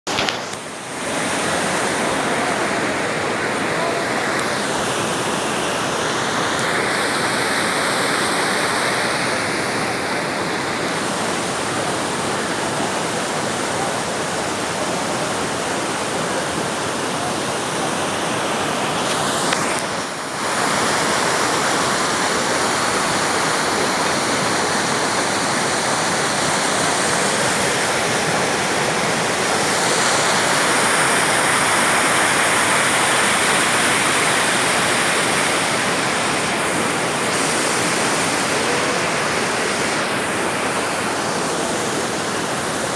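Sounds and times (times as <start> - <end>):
waterfall pouring: 0.1 - 42.9.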